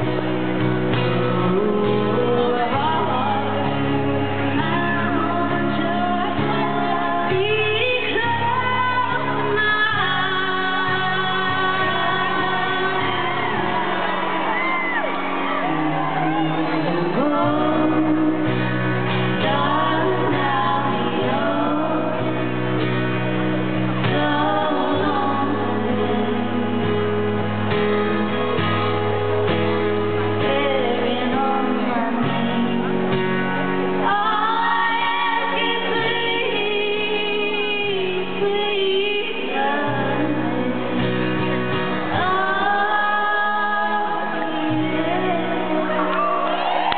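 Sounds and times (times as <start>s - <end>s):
acoustic guitar: 0.0s - 46.9s
female vocal trio singing in harmony: 1.4s - 15.0s, 15.6s - 22.6s, 24.0s - 27.2s, 30.4s - 33.1s, 34.0s - 41.2s, 42.0s - 46.6s.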